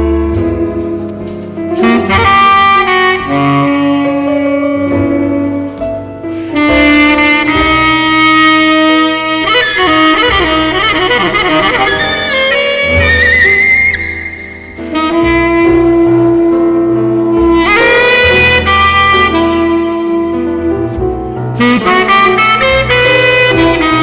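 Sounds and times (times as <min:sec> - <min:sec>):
tenor saxophone jazz melody: 0:00.0 - 0:24.0.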